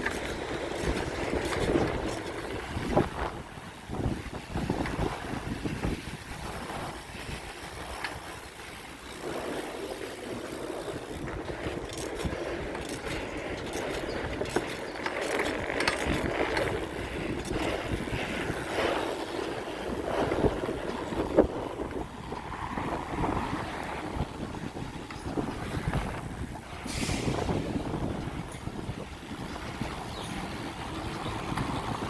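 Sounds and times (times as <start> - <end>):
bicycle road noise rumbling: 0.0 - 32.0
wind rushing over microphone: 0.0 - 32.0.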